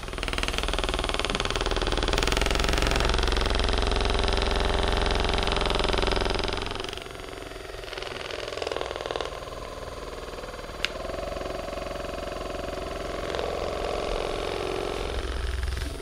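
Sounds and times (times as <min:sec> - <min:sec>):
massage gun buzzing: 0:00.0 - 0:16.0.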